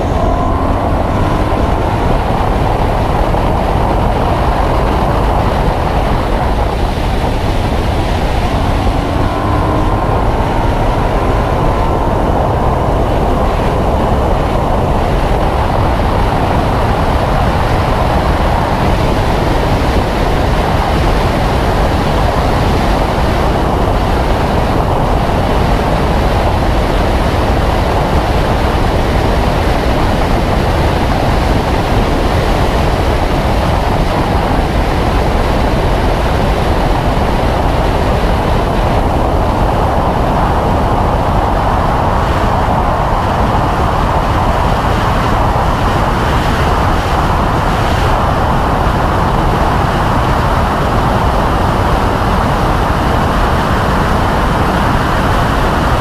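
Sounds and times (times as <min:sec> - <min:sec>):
car engine at high revs: 0:00.0 - 0:56.0
wind and tyre noise: 0:00.0 - 0:56.0.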